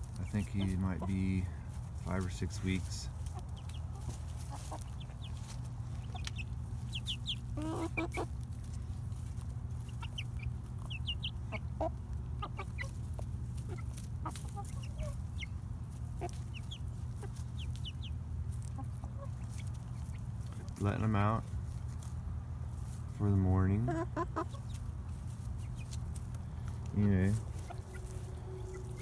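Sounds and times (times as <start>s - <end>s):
chicks peeping: 0.0s - 29.0s
low background hum: 0.0s - 29.0s
soft chicken clucks: 0.0s - 29.0s.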